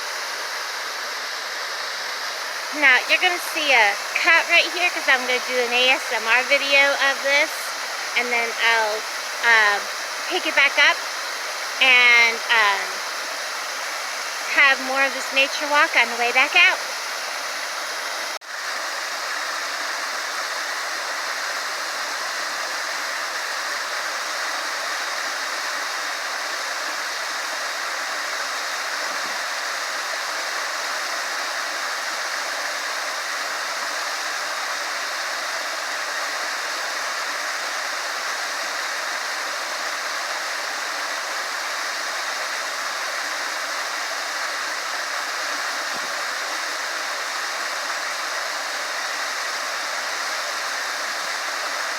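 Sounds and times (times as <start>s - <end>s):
small waterfall pouring: 0.0s - 51.9s.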